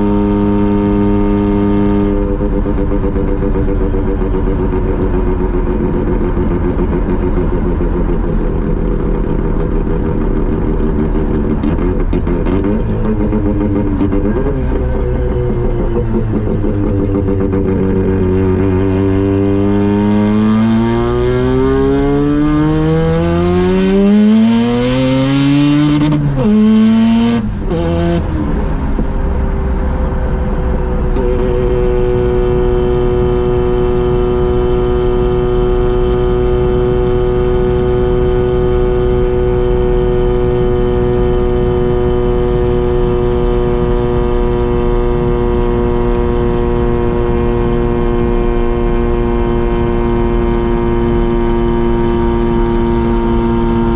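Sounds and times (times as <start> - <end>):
rotary engine revving: 0.0 - 53.9.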